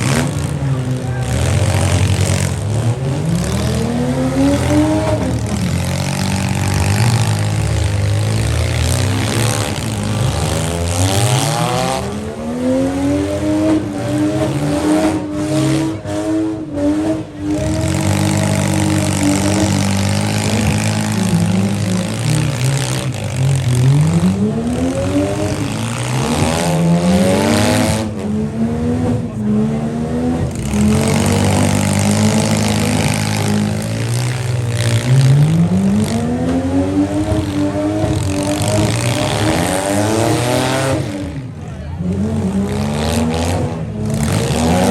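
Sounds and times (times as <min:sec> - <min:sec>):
vehicle engines revving hard: 0:00.0 - 0:44.9.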